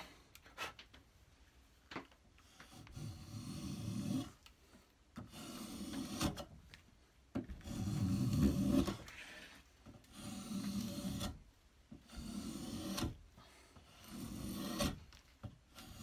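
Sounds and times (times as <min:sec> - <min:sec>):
spokeshave scraping wood: 0:02.4 - 0:06.6, 0:07.4 - 0:16.0.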